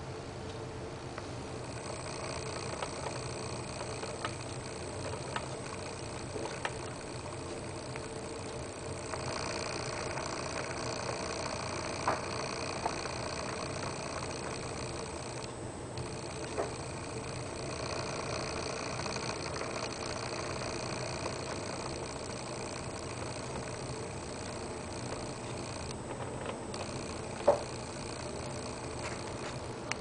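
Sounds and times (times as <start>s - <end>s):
turntable motor humming: 0.0s - 30.0s
faint clicks: 1.2s - 30.0s.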